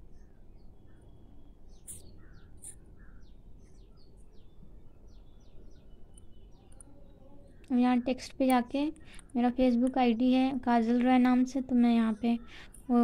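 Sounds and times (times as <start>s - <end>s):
faint bird chirping: 0.0s - 13.0s
low steady background noise: 0.0s - 13.0s.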